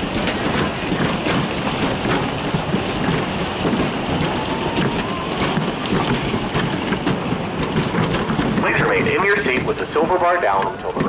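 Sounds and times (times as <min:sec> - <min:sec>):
ride car clattering rumble: 0:00.0 - 0:11.0.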